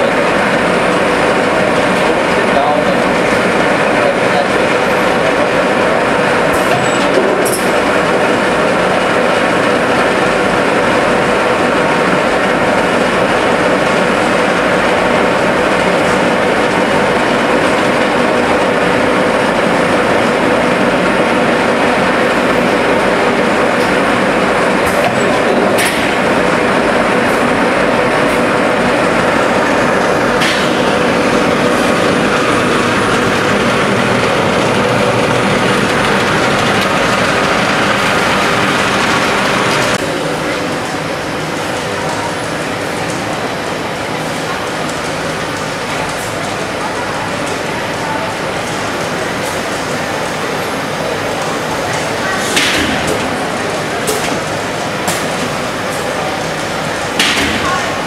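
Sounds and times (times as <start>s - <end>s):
factory machinery hum: 0.0s - 58.0s.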